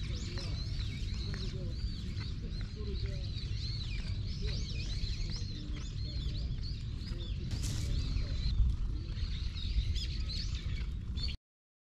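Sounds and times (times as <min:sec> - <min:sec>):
small birds chirping: 0:00.0 - 0:11.4
steady low rumble: 0:00.0 - 0:11.4.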